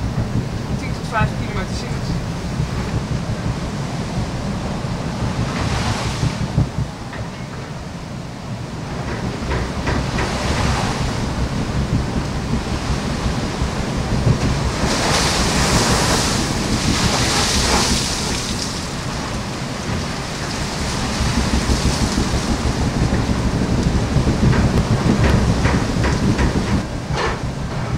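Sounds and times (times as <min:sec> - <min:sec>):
sea water rushing past ship: 0:00.0 - 0:27.9
wind buffeting microphone: 0:00.0 - 0:27.9.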